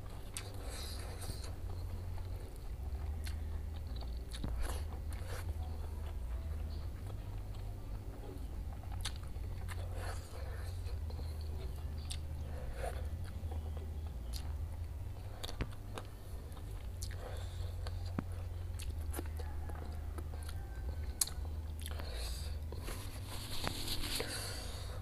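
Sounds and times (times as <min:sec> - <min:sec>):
low hum: 0:00.0 - 0:25.0
person chewing: 0:00.0 - 0:25.0.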